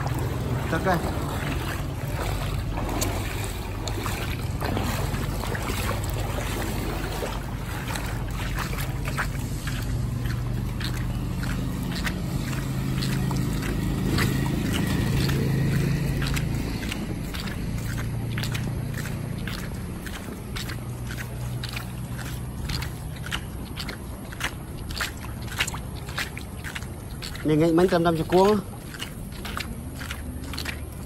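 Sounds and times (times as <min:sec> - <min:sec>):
footsteps splashing through water: 0:00.0 - 0:31.0
steady low rumble: 0:00.0 - 0:31.0.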